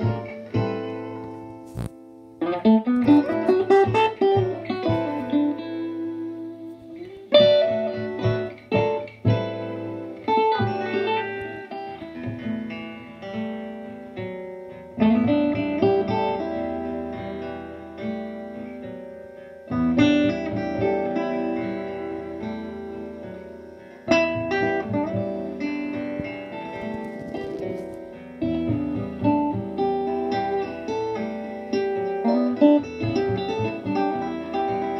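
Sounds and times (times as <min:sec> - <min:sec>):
plucked guitar melody: 0:00.0 - 0:34.9.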